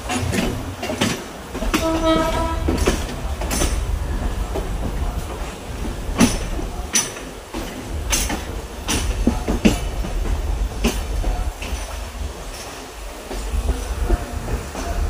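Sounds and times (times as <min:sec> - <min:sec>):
train rumbling: 0:00.0 - 0:15.0
train wheels clacking over joints: 0:00.0 - 0:15.0.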